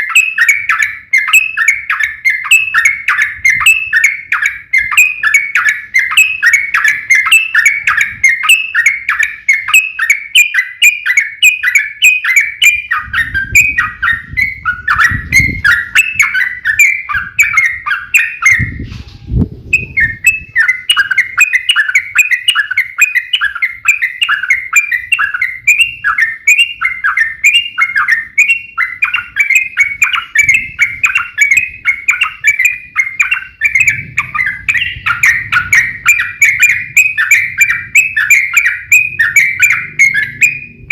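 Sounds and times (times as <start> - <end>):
bulbuls singing chattering notes: 0.0 - 18.9, 19.7 - 40.9.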